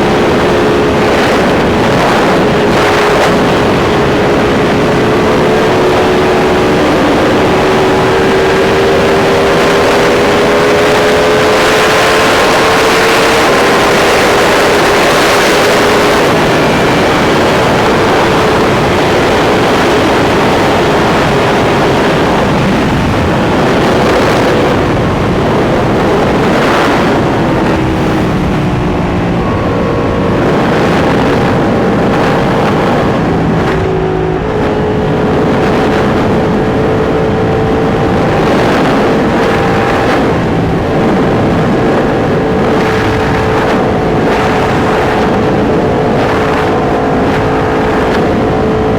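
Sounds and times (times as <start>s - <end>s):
motorcycle engine cruising: 0.0s - 48.9s
wind noise: 0.0s - 48.9s.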